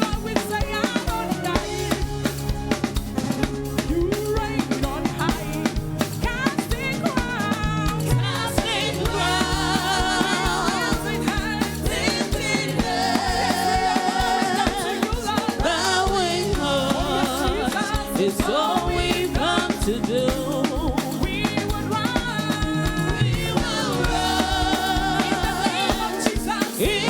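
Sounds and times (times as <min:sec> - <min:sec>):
drum kit beat: 0:00.0 - 0:27.0
voices singing: 0:03.9 - 0:27.0.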